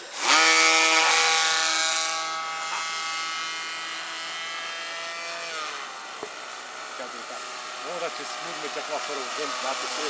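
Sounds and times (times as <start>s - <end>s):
model plane motor whining: 0.0s - 10.0s.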